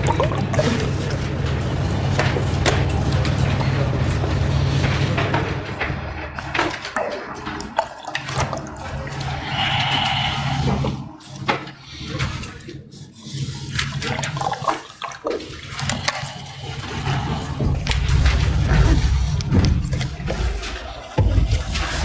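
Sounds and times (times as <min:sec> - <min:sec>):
steady low hum: 0:00.0 - 0:14.6, 0:15.4 - 0:22.0
water gurgling and swallowing: 0:00.0 - 0:22.0.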